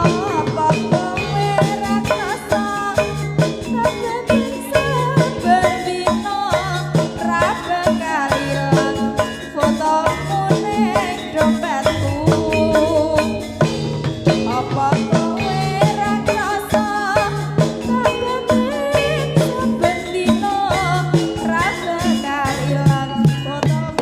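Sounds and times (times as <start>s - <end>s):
drums steady beat: 0.0s - 24.0s
ornamented melody: 0.0s - 24.0s.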